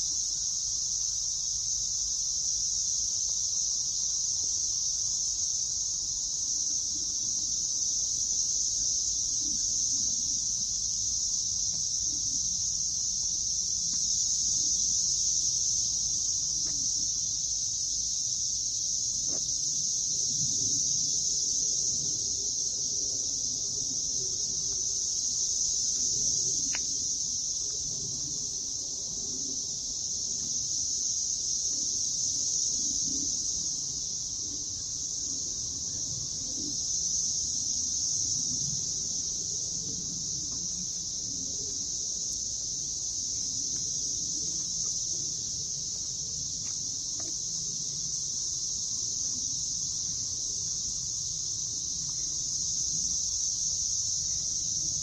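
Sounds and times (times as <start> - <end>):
cicada chorus droning: 0.0 - 55.0.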